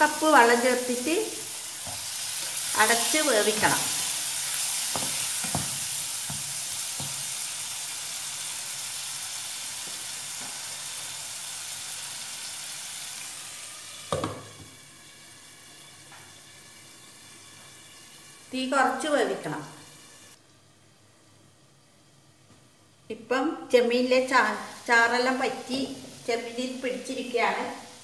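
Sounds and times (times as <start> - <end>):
prawns sizzling in a frying pan: 0.0 - 20.4, 23.7 - 28.0.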